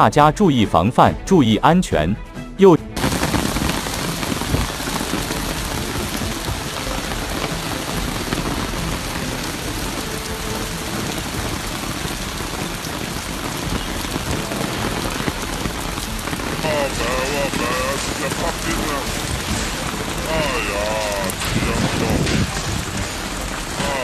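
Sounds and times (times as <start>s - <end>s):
heavy rain pouring: 2.9s - 24.0s.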